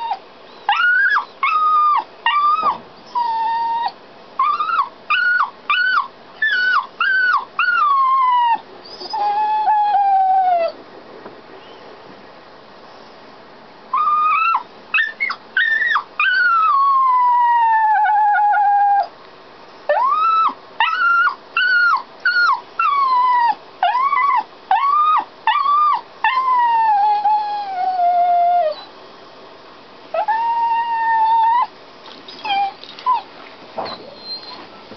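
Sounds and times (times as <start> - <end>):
dog whining: 0.0 - 10.8, 13.9 - 19.1, 19.9 - 28.9, 30.2 - 34.9.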